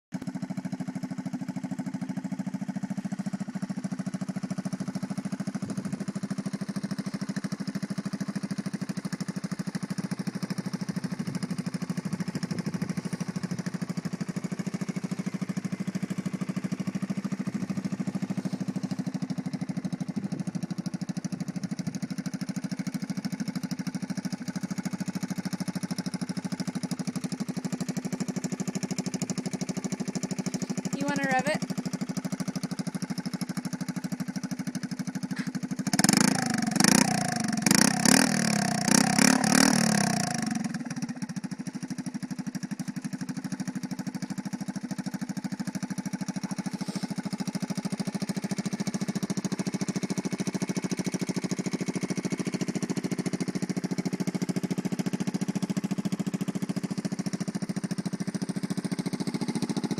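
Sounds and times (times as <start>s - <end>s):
small motorbike engine idling: 0.2s - 59.9s.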